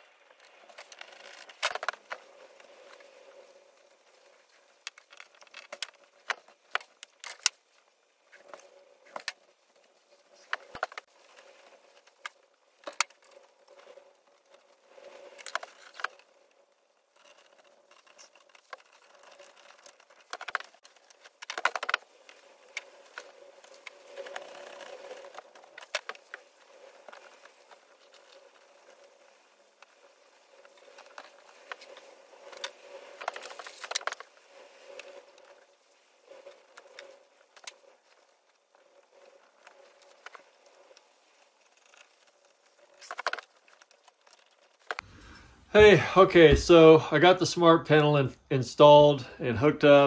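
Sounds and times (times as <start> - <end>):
clicks and rustles of wires: 0.0 - 45.1.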